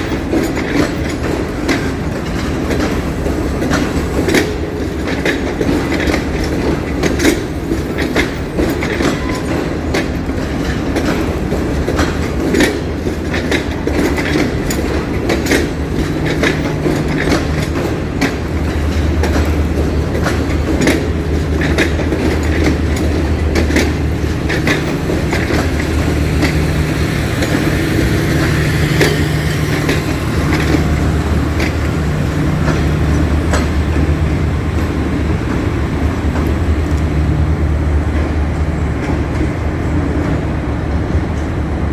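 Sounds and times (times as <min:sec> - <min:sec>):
train rumble: 0:00.0 - 0:41.9
train wheels clacking: 0:00.0 - 0:41.9.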